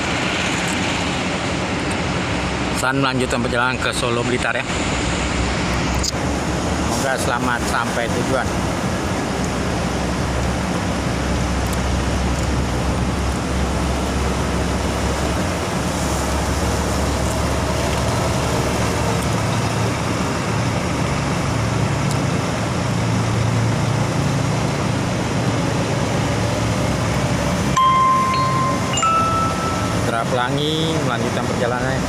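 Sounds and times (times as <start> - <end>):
diesel bus engine droning: 0.0 - 32.0
traffic noise: 0.0 - 32.0.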